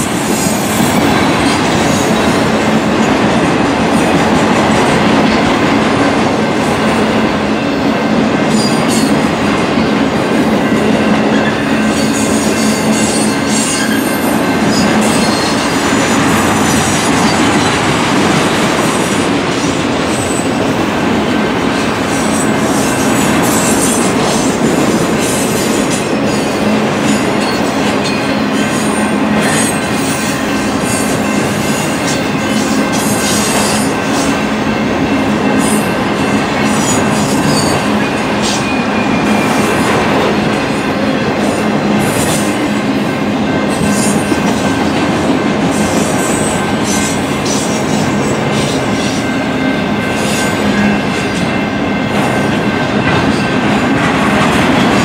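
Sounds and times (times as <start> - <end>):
freight cars rolling on rails: 0.0 - 55.0.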